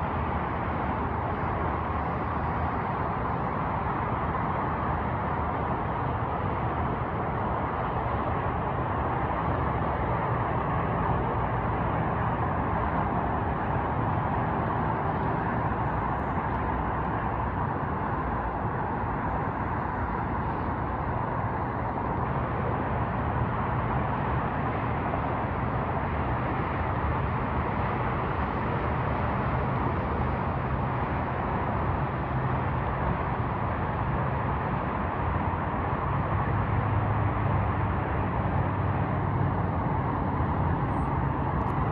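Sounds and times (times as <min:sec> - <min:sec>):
distant freeway traffic roar: 0:00.0 - 0:41.9.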